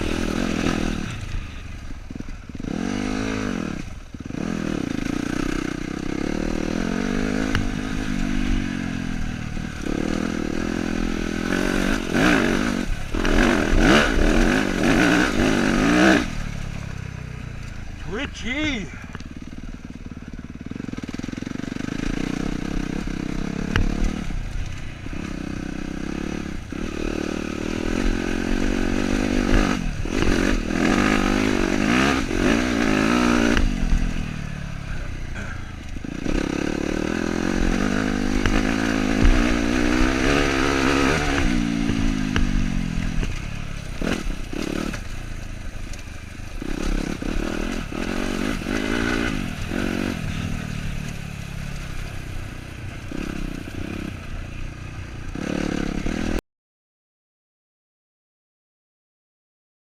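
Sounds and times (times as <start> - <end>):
dirt bike engine revving: 0.0 - 56.4.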